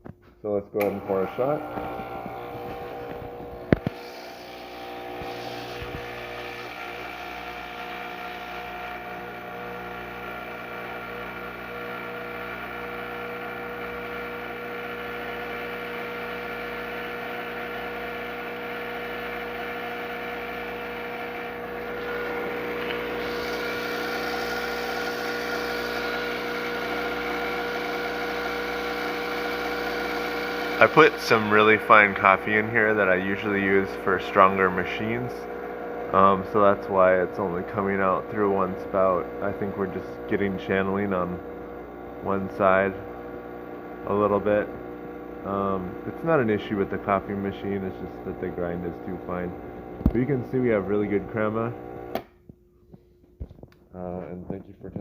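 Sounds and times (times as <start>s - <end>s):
espresso machine pump buzzing: 0.8s - 52.3s.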